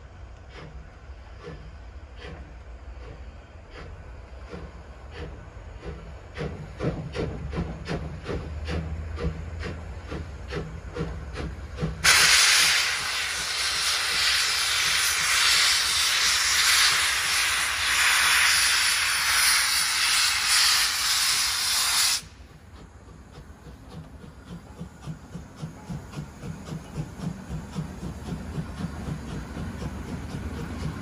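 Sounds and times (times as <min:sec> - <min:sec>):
steam hissing: 0:00.0 - 0:31.0.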